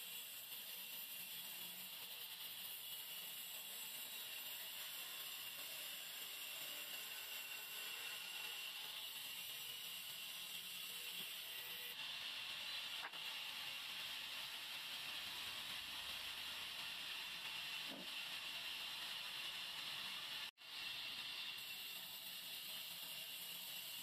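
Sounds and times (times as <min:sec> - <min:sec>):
band saw cutting wood: 0:00.0 - 0:24.0.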